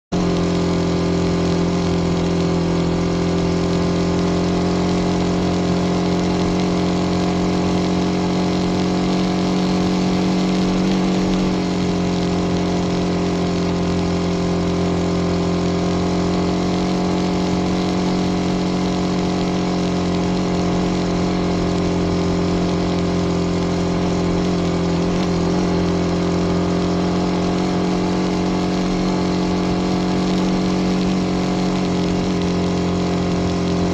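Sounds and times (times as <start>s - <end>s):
small motorbike engine running: 0.2s - 33.9s.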